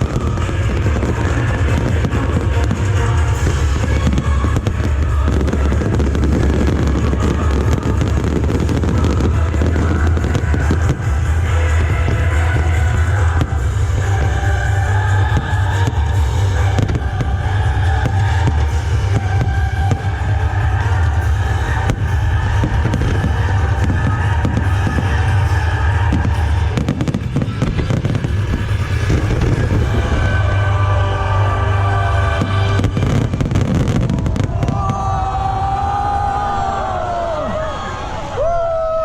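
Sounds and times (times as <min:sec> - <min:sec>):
fireworks bursting: 0:00.0 - 0:35.8
music: 0:00.0 - 0:37.4.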